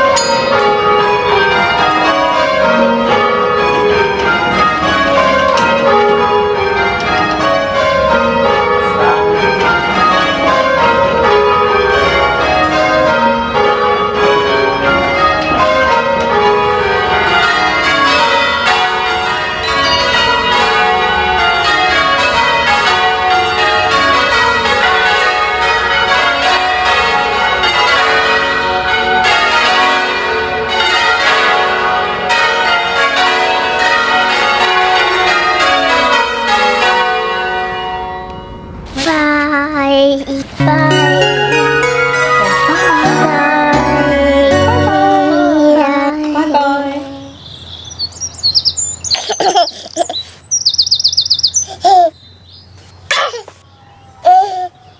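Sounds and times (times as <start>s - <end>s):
church bells ringing: 0.0s - 39.9s, 40.5s - 52.8s.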